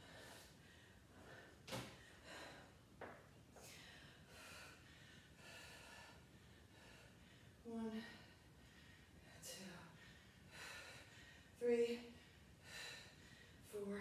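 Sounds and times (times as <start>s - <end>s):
woman breathing heavily: 0.0s - 14.0s.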